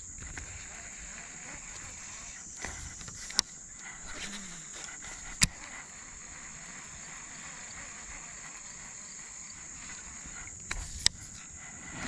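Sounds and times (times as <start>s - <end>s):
insects droning: 0.0s - 12.0s
sharp clicks: 0.2s - 11.5s.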